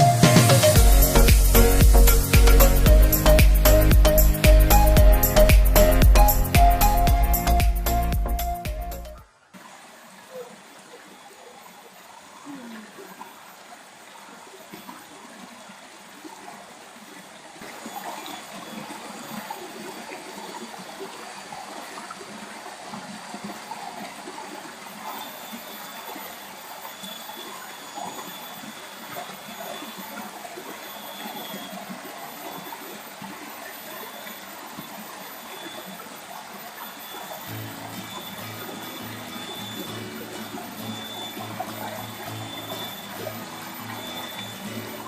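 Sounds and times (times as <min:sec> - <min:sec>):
stream water babbling: 0:00.0 - 0:45.0.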